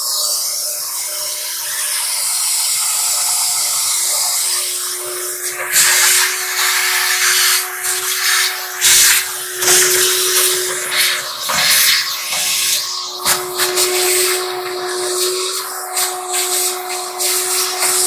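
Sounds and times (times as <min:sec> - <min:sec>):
shop vacuum running: 0:00.0 - 0:18.0.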